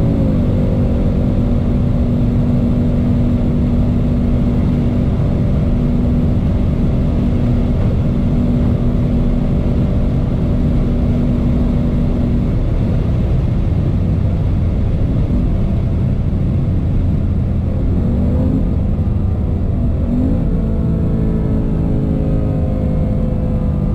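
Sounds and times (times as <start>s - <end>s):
car engine running hard: 0.0s - 23.9s
wind noise: 0.0s - 23.9s.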